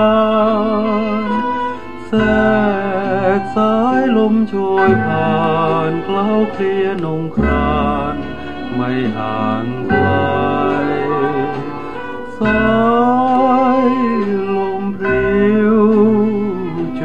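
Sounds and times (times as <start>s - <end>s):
singer holding long notes: 0.0s - 17.0s.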